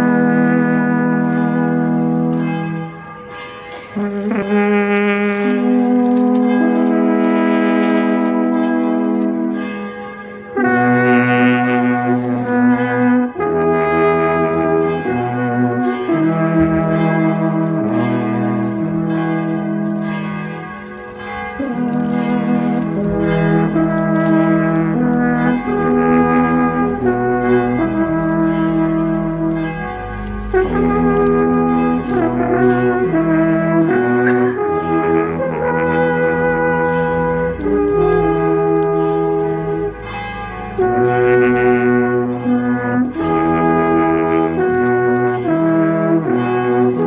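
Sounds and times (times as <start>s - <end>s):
alphorns playing in harmony: 0.0s - 47.0s.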